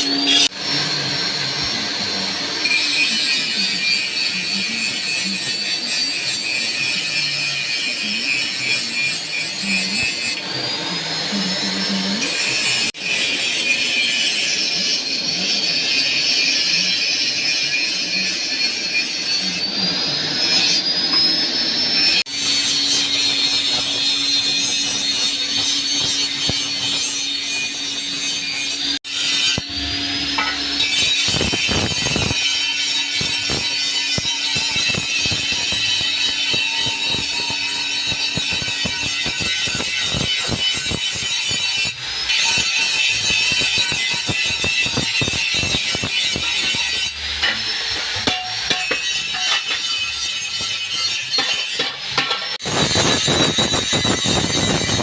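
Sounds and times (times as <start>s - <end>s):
blade grinding with whine: 0.0s - 55.0s.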